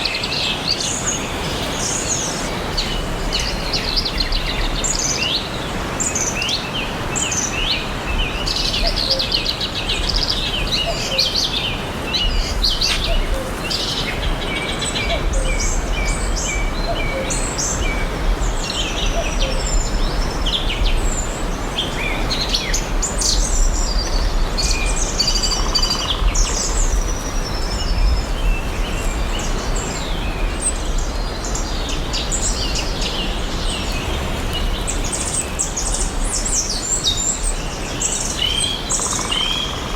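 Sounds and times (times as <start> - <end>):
outdoor background hiss and rumble: 0.0 - 39.9
songbirds chirping and singing: 0.0 - 39.9.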